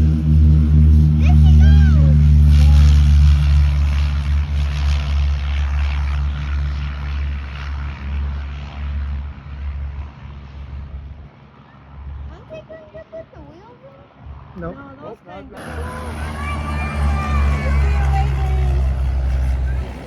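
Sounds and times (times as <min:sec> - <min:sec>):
airplane engine drone: 0:00.0 - 0:12.3, 0:15.6 - 0:20.0.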